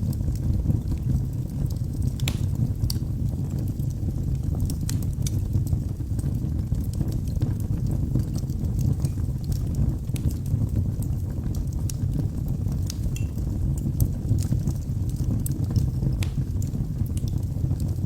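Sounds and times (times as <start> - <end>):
fire crackles and pops: 0.0 - 18.0
flames rushing: 0.0 - 18.0.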